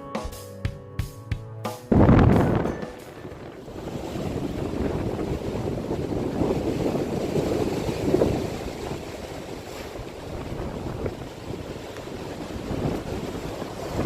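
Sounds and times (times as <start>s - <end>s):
wind buffeting microphone: 1.9s - 14.0s.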